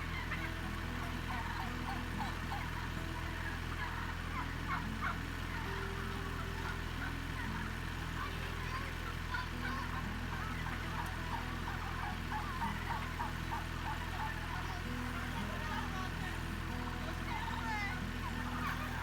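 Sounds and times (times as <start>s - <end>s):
steady low hum: 0.0s - 19.0s
turkeys calling: 0.0s - 19.0s.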